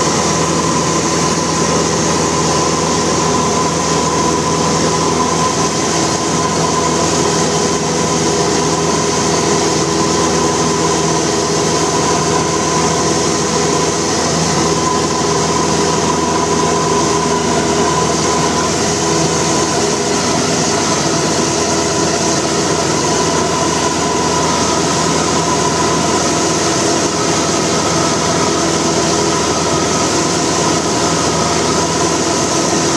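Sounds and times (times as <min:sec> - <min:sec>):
airplane engine drone in cabin: 0:00.0 - 0:32.9.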